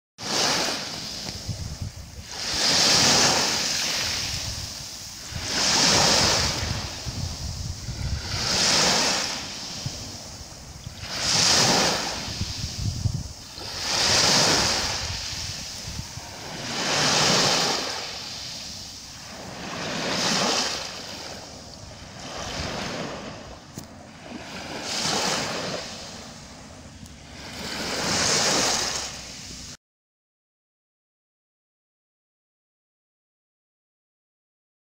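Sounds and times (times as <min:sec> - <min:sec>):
waves washing on shingle beach: 0:00.2 - 0:29.8.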